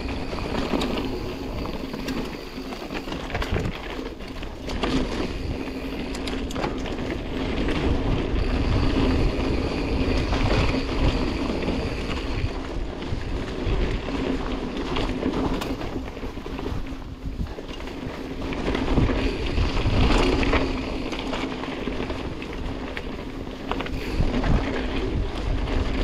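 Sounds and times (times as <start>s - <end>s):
tyres rumbling on trail: 0.0s - 26.0s
wind buffeting microphone: 0.0s - 26.0s.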